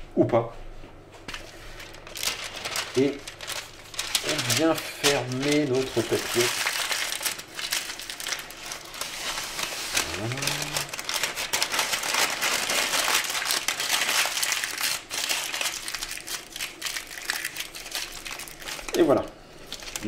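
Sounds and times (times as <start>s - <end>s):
parchment paper crinkling: 1.3s - 20.0s.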